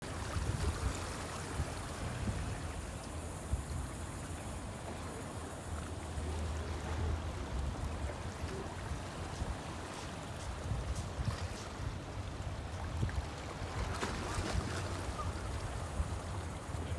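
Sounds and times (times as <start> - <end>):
river water washing: 0.0 - 16.9
wind buffeting microphone: 0.1 - 5.2, 6.2 - 16.9.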